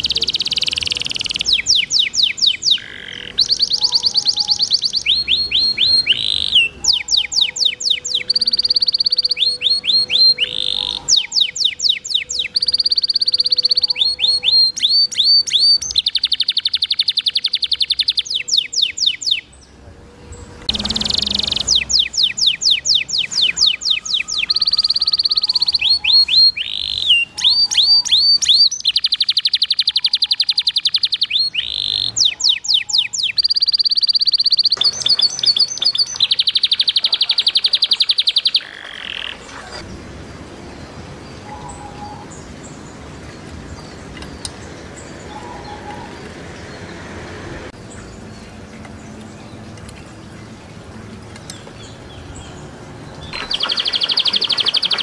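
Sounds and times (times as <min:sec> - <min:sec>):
canary singing: 0:00.0 - 0:40.0, 0:40.7 - 0:47.1, 0:51.4 - 0:55.0.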